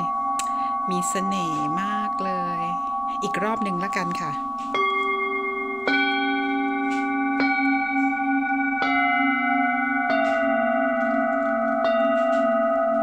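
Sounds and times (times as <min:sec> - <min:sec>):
singing bowls ringing: 0:00.0 - 0:13.0.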